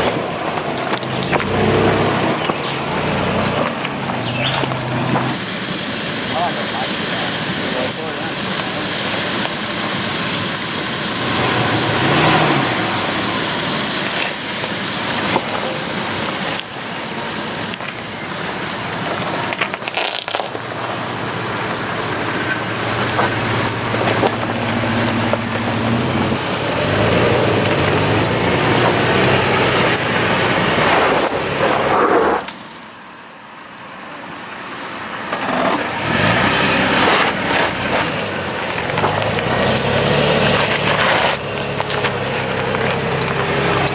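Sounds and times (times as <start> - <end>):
truck engine running: 0.0 - 32.1, 33.0 - 43.9
tyre and terrain noise: 0.0 - 43.9.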